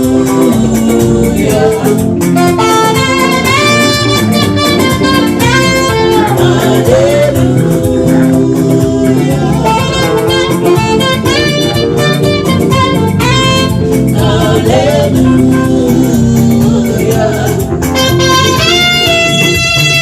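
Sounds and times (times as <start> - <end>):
bending lead melody: 0.0 - 20.0
gospel band music: 0.0 - 20.0
guitar: 0.0 - 20.0.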